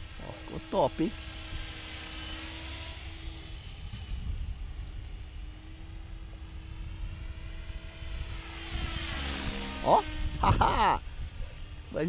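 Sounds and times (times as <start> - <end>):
wind rumbling on microphone: 0.0 - 2.0, 2.9 - 12.0
model helicopter high-pitched whine: 0.0 - 12.0.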